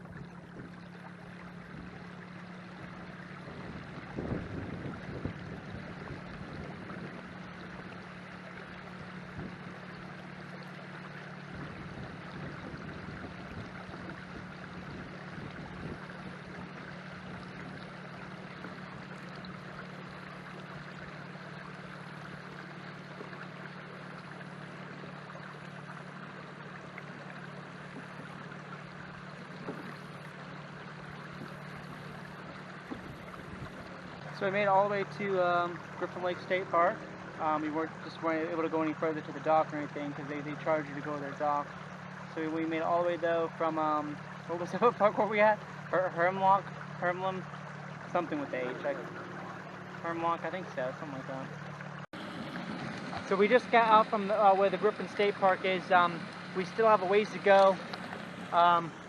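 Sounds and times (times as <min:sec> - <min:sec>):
electric boat motor humming: 0:00.0 - 0:59.0
water washing along hull: 0:00.0 - 0:59.0.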